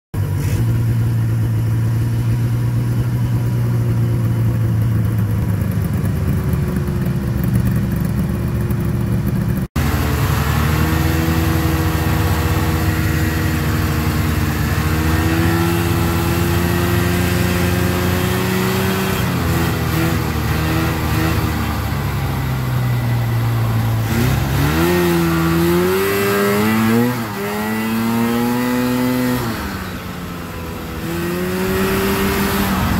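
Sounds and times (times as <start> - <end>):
snowmobile engine running: 0.2 - 32.9.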